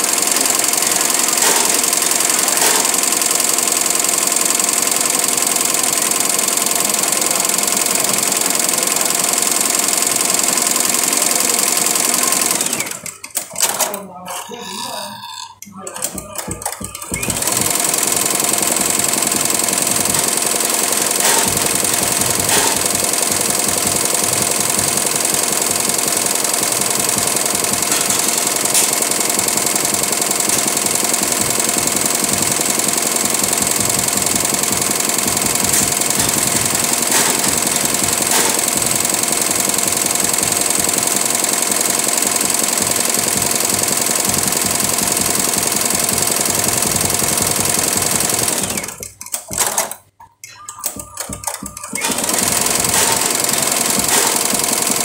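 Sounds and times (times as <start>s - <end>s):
machine clicks: 0.0s - 14.8s, 15.5s - 55.0s
embroidery machine needle chatter: 0.0s - 50.0s, 50.6s - 55.0s.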